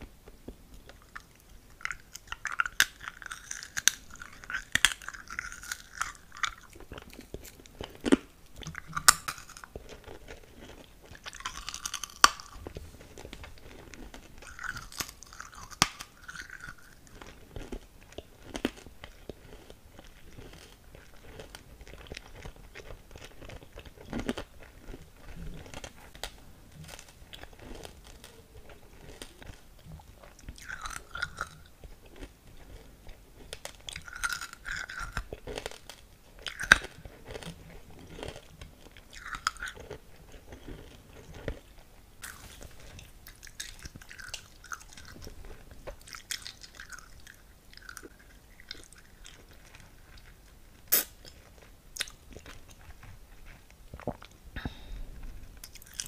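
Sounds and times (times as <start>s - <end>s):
candy crunching in mouth: 0.8s - 56.0s.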